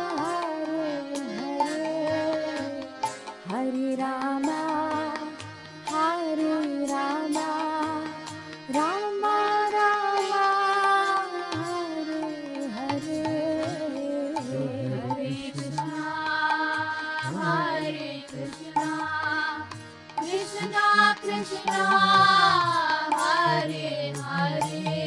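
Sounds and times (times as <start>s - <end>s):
harmonium: 0.0s - 25.0s
person singing: 0.0s - 25.0s.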